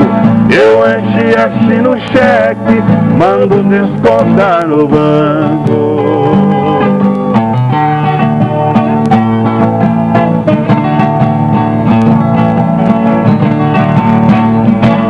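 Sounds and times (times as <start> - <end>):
plucked string instruments: 0.0 - 15.0
steady bass line: 0.0 - 15.0.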